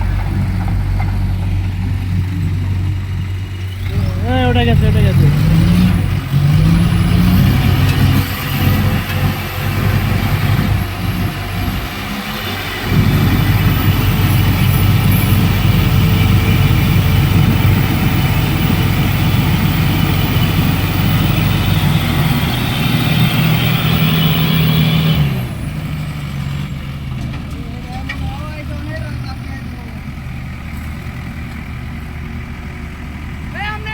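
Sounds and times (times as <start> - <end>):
heavy machinery diesel engines: 0.0 - 33.9.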